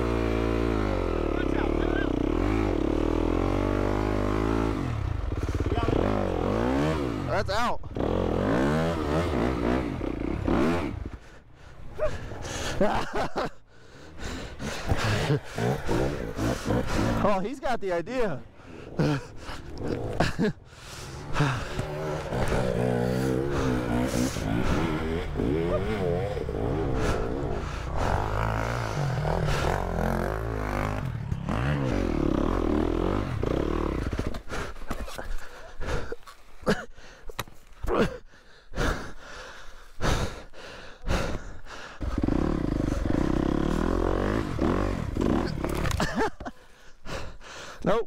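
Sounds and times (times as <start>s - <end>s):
dirt bike engine revving: 0.0s - 13.6s, 14.2s - 36.1s, 41.1s - 46.5s.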